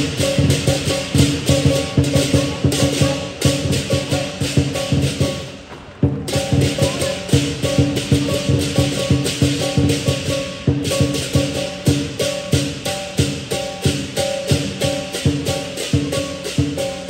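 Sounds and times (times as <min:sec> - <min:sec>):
crashing cymbals: 0:00.0 - 0:17.0
drum beating fast rhythm: 0:00.0 - 0:17.0
gong: 0:00.0 - 0:17.0.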